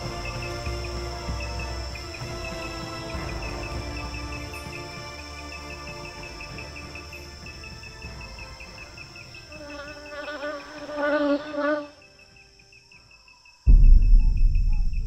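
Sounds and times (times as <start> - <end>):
crickets chirping: 0.0 - 15.0
high insect drone: 0.0 - 15.0.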